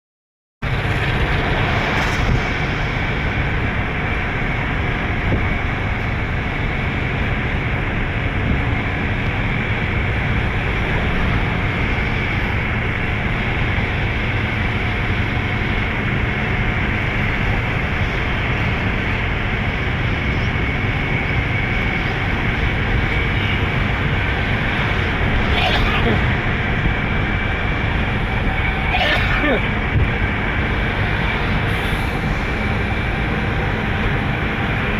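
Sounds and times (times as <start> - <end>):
heavy truck engine and road noise: 0.6 - 34.9.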